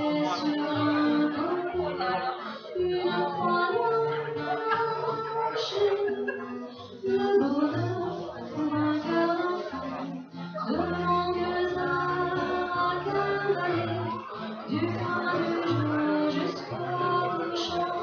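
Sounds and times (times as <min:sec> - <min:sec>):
acoustic guitar: 0:00.0 - 0:18.0
woman singing: 0:00.0 - 0:18.0.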